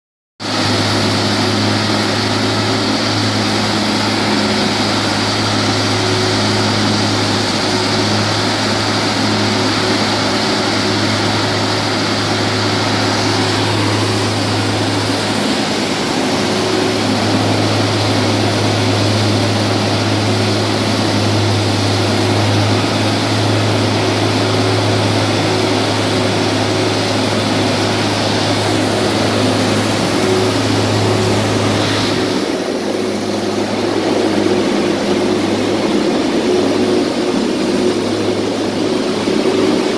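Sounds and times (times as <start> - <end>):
machine humming and whirring: 0.4 - 39.9.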